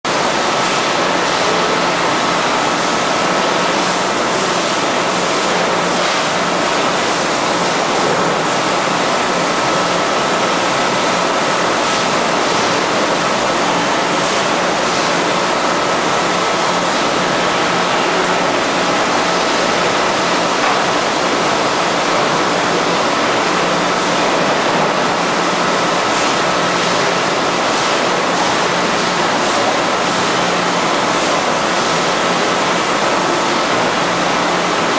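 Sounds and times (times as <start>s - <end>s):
bottling machinery hiss and whine: 0.1s - 34.9s.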